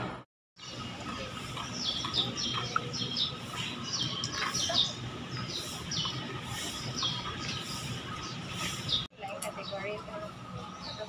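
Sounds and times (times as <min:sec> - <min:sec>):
outdoor background hum: 0:00.0 - 0:11.0
small birds chirping: 0:00.6 - 0:11.0.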